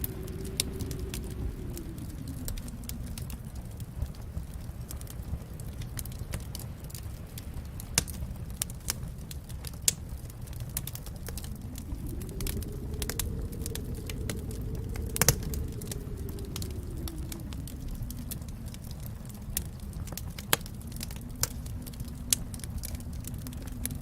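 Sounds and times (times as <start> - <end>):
low rumble of flames: 0.0 - 24.0.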